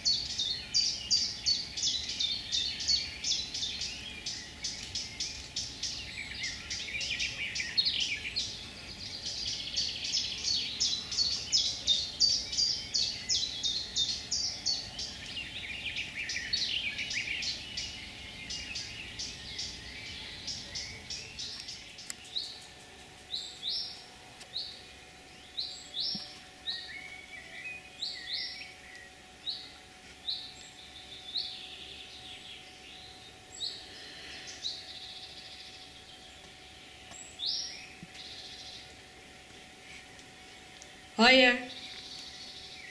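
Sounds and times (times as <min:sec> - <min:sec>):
birds singing: 0:00.0 - 0:42.9.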